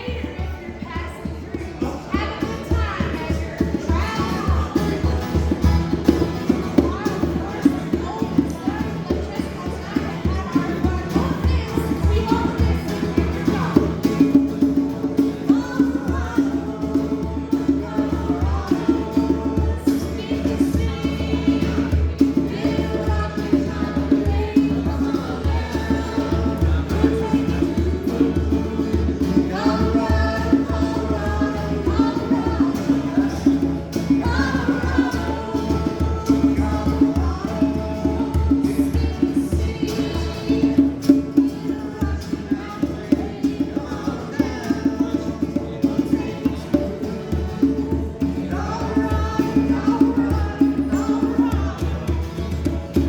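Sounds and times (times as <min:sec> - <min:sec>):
rhythmic accompaniment with percussion: 0:00.0 - 0:53.0
group singing folk song: 0:00.1 - 0:53.0.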